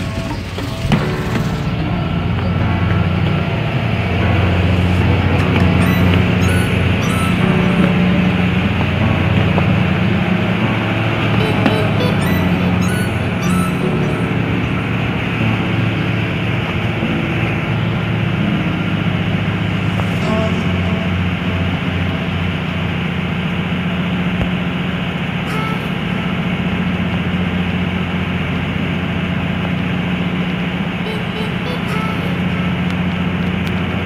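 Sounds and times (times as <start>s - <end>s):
boat machinery droning: 0.0s - 34.0s.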